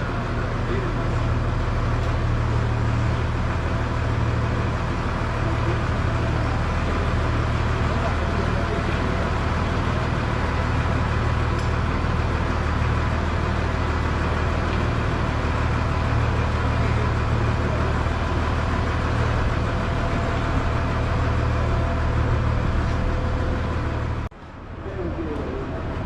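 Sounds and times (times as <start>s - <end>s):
engine running with low drone: 0.0s - 26.0s.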